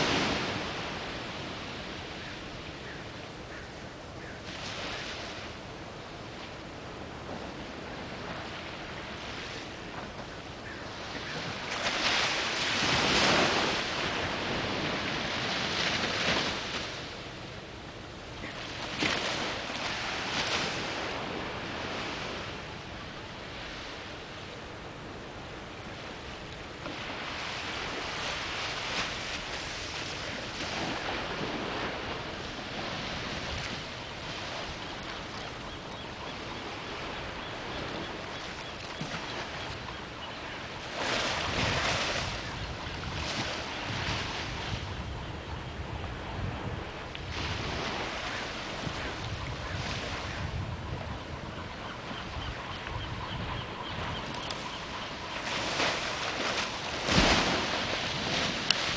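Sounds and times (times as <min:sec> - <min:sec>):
ocean waves washing on shore: 0:00.0 - 0:58.9.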